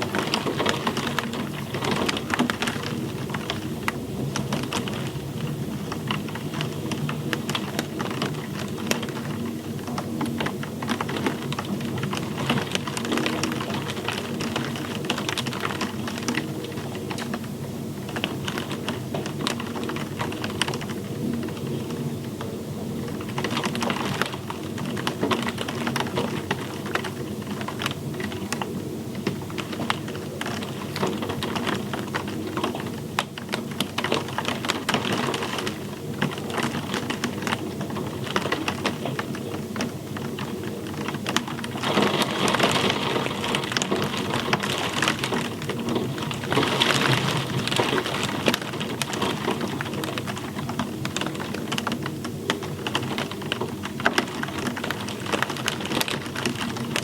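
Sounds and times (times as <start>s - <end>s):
crackling rain drops: 0.0s - 57.0s
low constant rumble: 0.0s - 57.0s.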